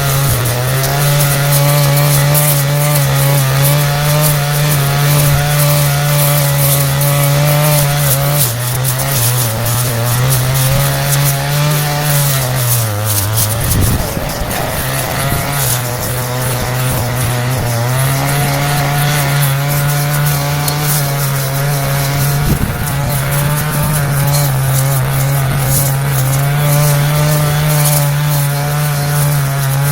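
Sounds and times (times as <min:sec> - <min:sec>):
brush cutter engine running: 0:00.0 - 0:29.9.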